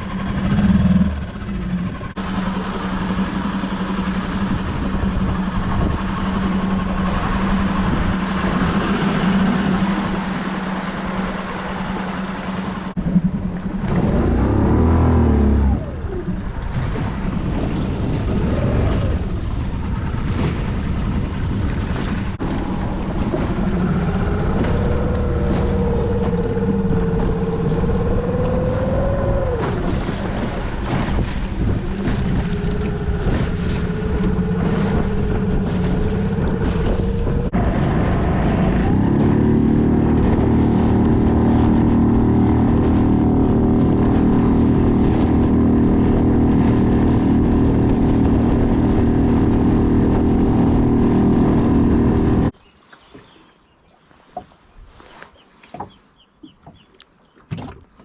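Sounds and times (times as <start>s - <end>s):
motorboat engine: 0.0s - 54.5s
water noise: 0.0s - 58.0s
wind: 0.0s - 58.0s.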